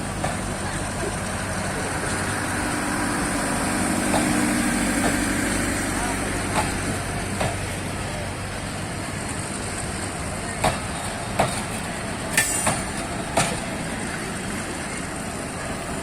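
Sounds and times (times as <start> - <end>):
train rumbling on track: 0.0 - 16.0
wheels clacking over rail joints: 0.0 - 16.0.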